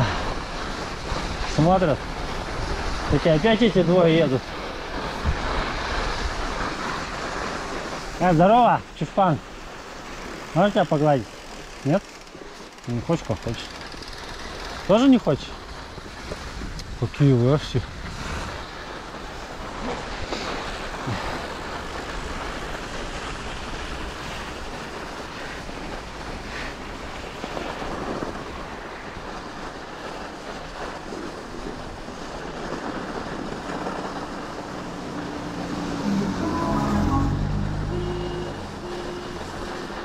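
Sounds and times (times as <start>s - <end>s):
wind rumbling on microphone: 0.0s - 10.6s, 11.2s - 40.0s.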